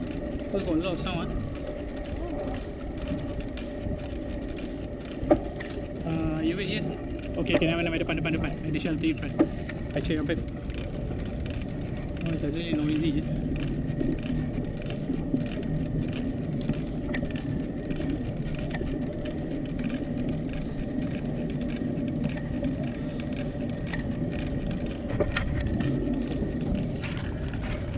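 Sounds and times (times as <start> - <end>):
bicycle tyres rumbling on asphalt: 0.0 - 27.9.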